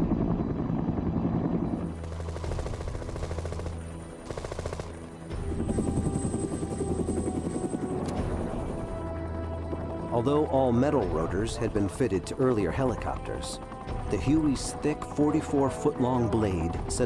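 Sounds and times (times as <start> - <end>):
helicopter rotor beating: 0.0 - 17.0.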